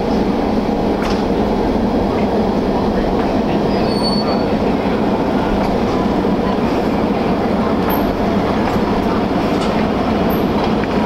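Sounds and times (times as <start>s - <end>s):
diesel locomotive engine: 0.0s - 11.0s
train wheels rolling on rails: 0.0s - 11.0s.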